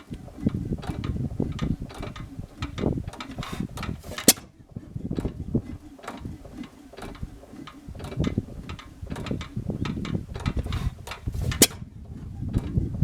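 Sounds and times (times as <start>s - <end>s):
hit-and-miss engine running: 0.0s - 13.0s.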